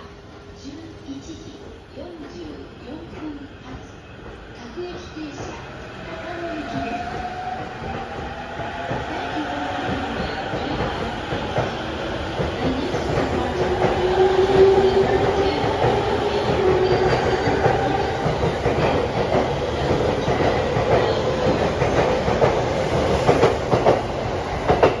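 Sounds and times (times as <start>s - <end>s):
train wheels rumbling on rail: 0.2s - 25.0s.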